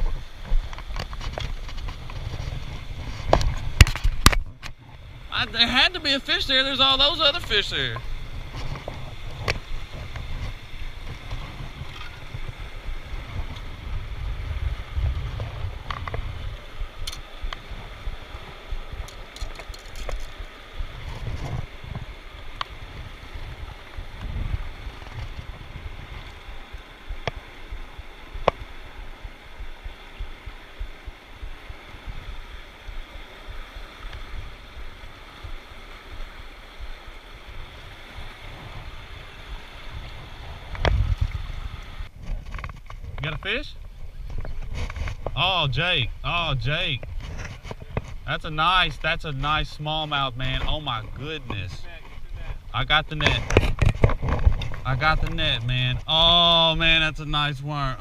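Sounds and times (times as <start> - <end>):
wind buffeting microphone: 0.0 - 49.4, 50.2 - 57.2
creek water flowing: 0.0 - 58.0.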